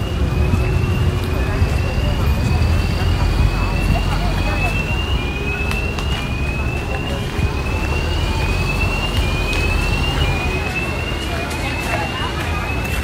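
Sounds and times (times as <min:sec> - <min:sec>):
low traffic rumble: 0:00.0 - 0:13.0
scattered voices: 0:00.0 - 0:13.0.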